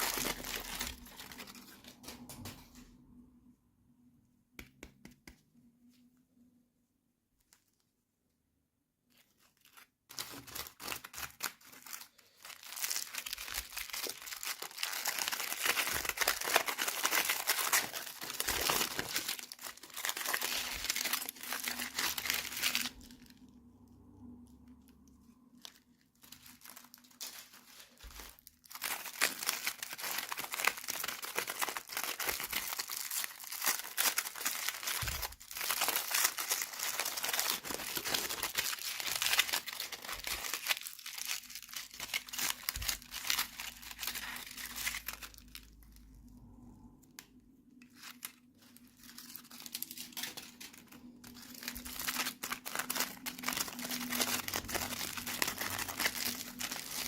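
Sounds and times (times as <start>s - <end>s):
packaging crinkling and tearing: 0.0s - 2.8s, 9.1s - 23.8s, 24.8s - 46.3s, 47.2s - 57.0s.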